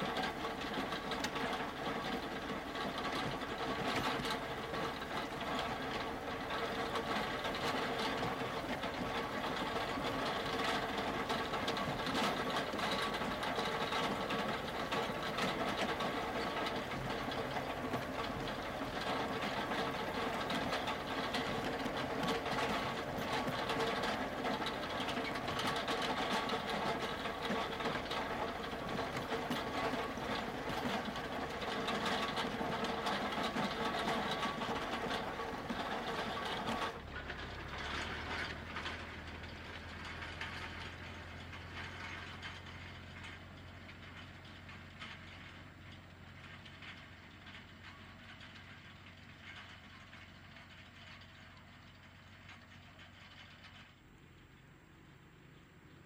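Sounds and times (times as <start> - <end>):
disc harrow rattling and clattering: 0.0 - 56.0
tractor engine drone: 0.0 - 56.0.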